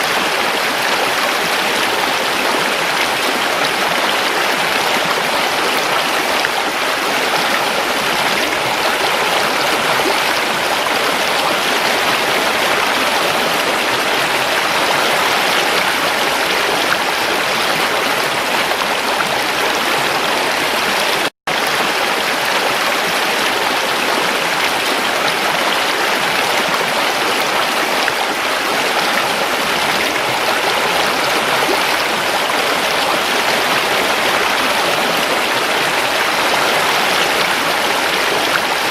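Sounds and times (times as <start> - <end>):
creek water running: 0.0 - 38.9.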